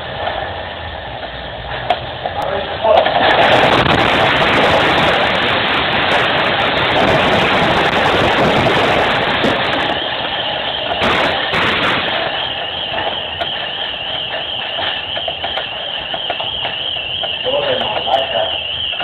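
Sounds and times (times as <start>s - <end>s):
earthquake rumble: 0.0s - 19.0s.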